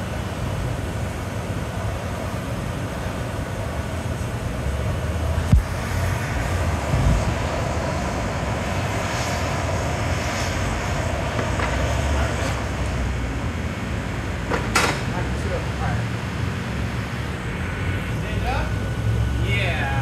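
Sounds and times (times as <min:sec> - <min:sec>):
gas torches roaring: 0:00.2 - 0:20.0.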